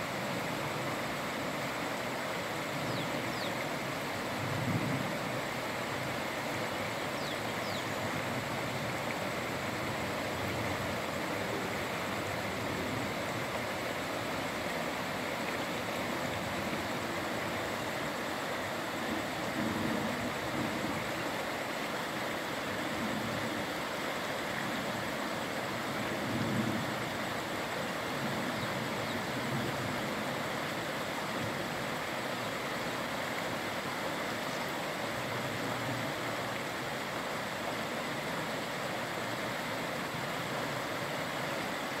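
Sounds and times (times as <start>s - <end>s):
water rushing over rocks: 0.0s - 42.0s.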